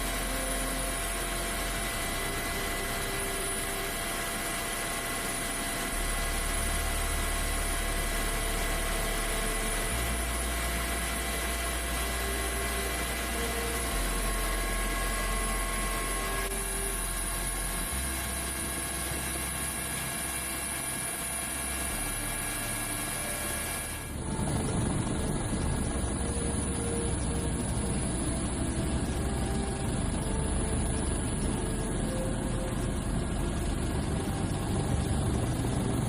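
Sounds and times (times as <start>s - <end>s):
aircraft engine and airflow noise: 0.0s - 36.0s
constant humming tones: 0.0s - 36.0s.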